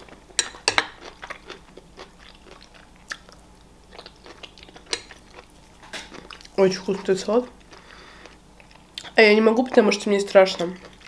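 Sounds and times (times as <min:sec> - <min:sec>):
person chewing food: 0:00.0 - 0:09.9, 0:10.8 - 0:11.0.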